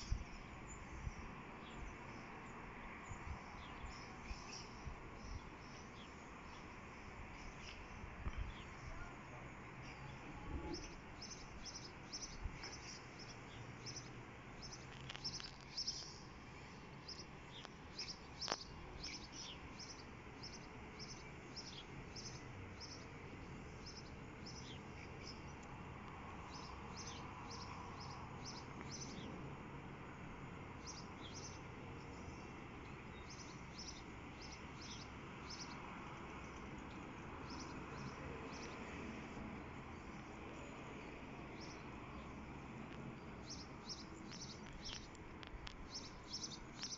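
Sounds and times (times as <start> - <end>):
faint background noise: 0.0 - 46.9
small birds chirping: 0.0 - 46.9.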